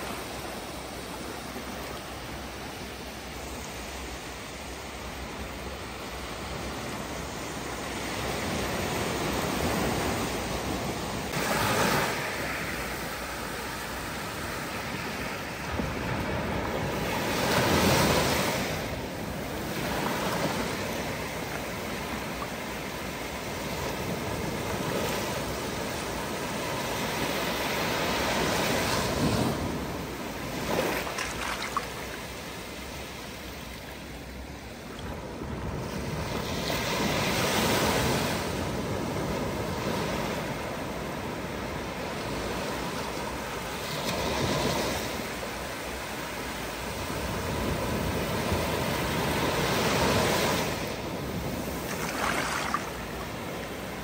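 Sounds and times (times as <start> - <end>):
waves breaking on shore: 0.0 - 54.0.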